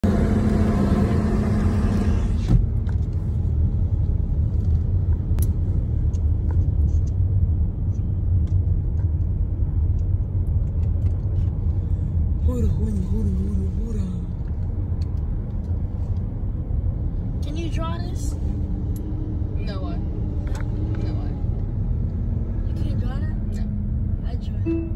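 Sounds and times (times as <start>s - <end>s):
car road and engine rumble: 0.0s - 24.9s.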